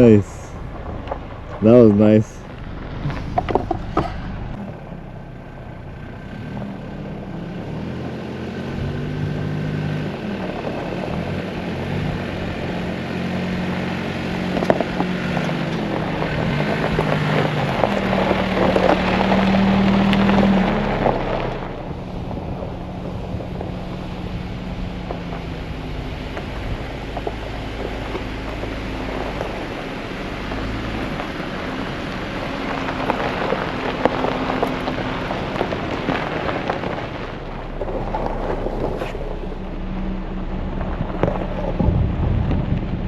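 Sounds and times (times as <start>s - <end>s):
engine revving under load: 0.0s - 43.0s
tyres crunching over gravel: 0.0s - 43.0s.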